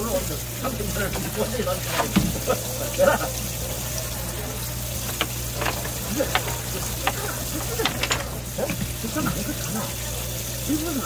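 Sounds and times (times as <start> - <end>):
water hissing and bubbling: 0.0 - 11.0.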